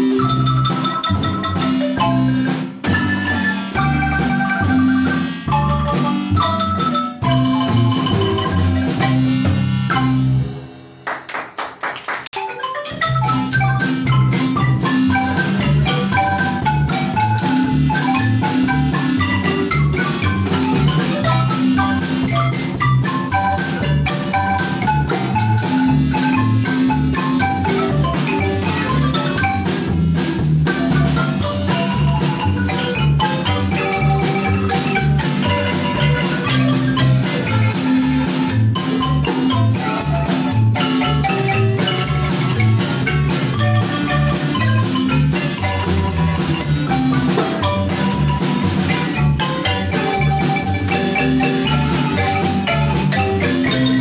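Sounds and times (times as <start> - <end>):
marimbas playing quick notes: 0.0 - 11.0, 12.4 - 54.0
drum kit with cymbals: 0.0 - 11.3, 12.8 - 54.0.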